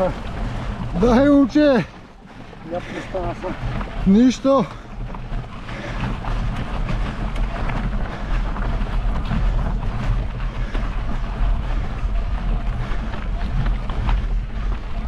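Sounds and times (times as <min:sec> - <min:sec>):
bicycle tyres on gravel: 0:00.0 - 0:15.0
wind buffeting microphone: 0:00.0 - 0:15.0.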